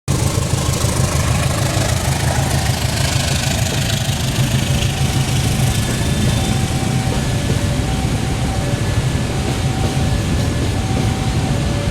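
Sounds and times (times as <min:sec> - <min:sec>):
locomotive engine throbbing: 0:00.1 - 0:11.9.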